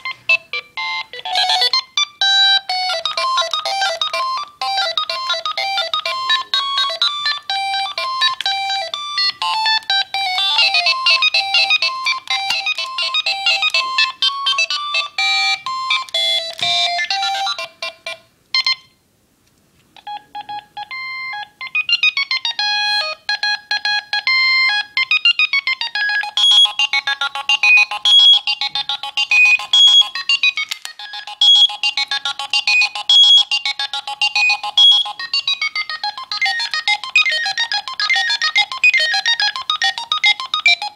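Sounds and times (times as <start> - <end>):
repeating ringtone tune: 0.0 - 18.9, 20.0 - 40.9
high-pitched electronic ringtone melody: 0.0 - 19.0, 20.0 - 40.9.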